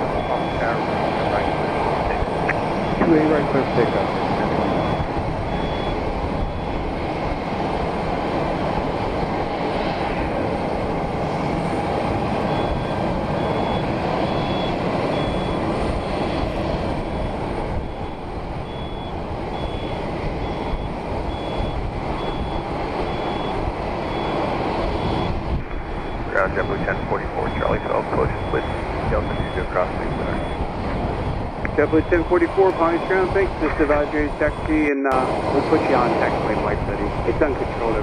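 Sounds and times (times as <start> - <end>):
jet engines at takeoff power: 0.0 - 38.0.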